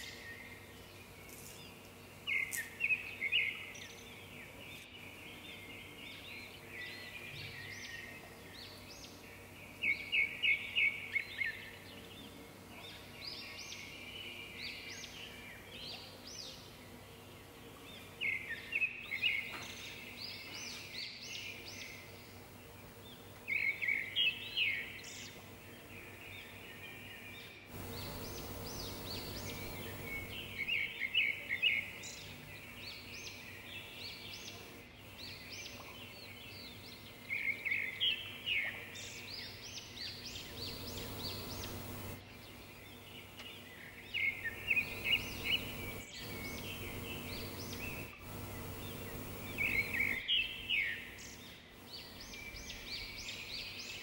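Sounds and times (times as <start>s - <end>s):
faint steady hum: 0.0s - 54.0s
songbird chirping: 0.0s - 54.0s.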